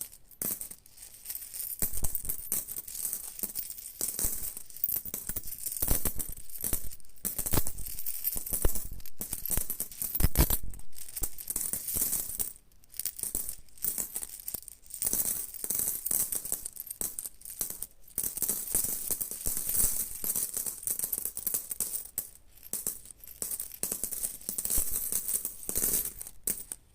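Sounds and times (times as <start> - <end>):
coins jingling: 0.0 - 26.8.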